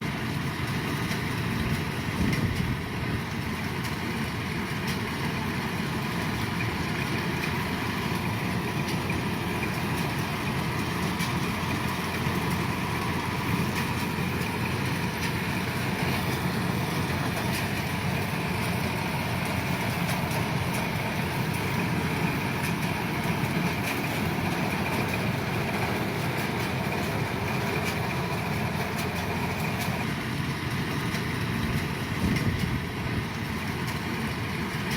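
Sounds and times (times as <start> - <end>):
combine harvester engine droning: 0.0 - 34.9.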